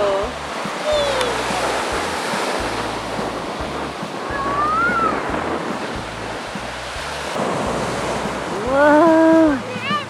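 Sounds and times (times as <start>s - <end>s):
ocean surf washing on beach: 0.0s - 10.0s
wind buffeting microphone: 0.0s - 10.0s.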